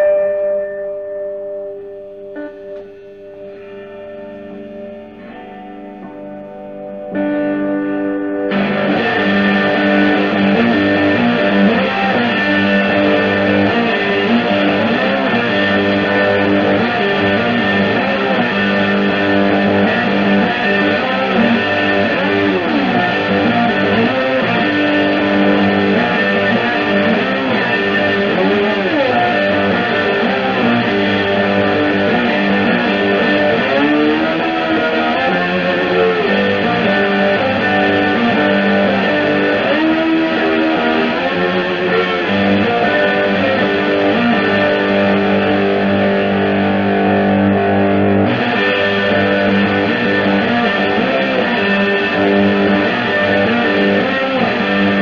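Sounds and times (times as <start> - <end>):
electric guitar chords and notes: 0.0 - 55.0.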